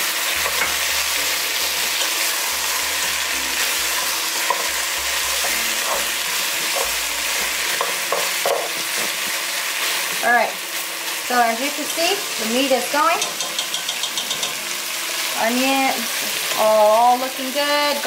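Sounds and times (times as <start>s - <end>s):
meat and potatoes sizzling: 0.0s - 18.0s.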